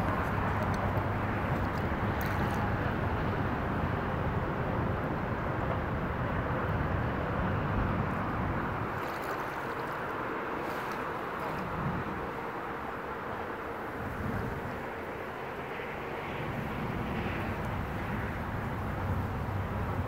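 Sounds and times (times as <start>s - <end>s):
river water flowing: 0.0s - 20.0s
wind: 0.0s - 20.0s.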